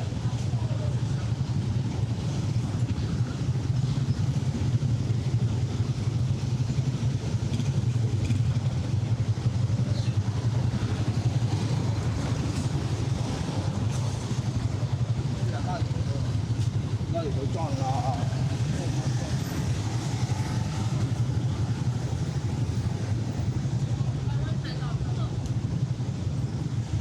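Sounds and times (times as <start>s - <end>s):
city street traffic rumble: 0.0s - 27.0s.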